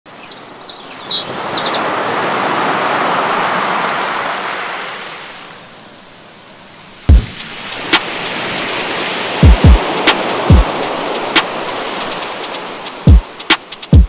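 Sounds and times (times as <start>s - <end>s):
waves washing in: 0.4s - 14.0s.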